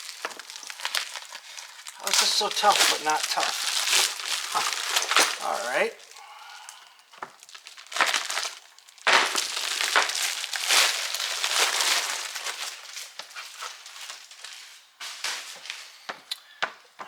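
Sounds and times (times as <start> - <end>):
packaging ripped and crumpled: 0.0 - 15.8.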